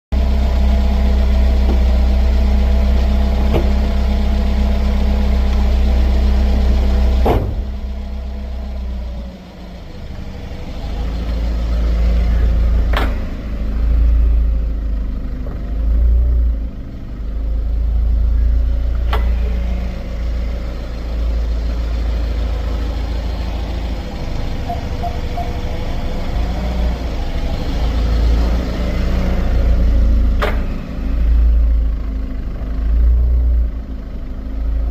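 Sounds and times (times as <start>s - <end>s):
car rolling rumble: 0.1s - 34.9s
brakes ticking and clunking: 0.2s - 34.9s.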